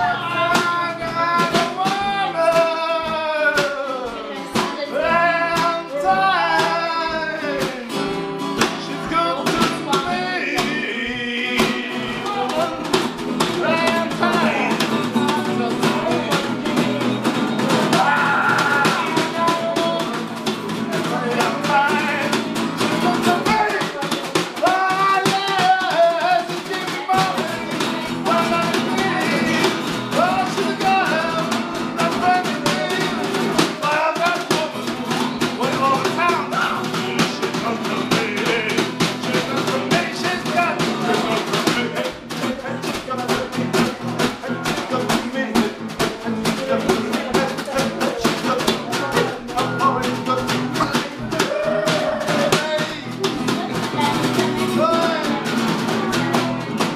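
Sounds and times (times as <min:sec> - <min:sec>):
snare drum beaten with sticks: 0:00.0 - 0:11.0, 0:11.6 - 0:56.9
acoustic guitar: 0:00.0 - 0:56.9
man singing: 0:00.0 - 0:56.9.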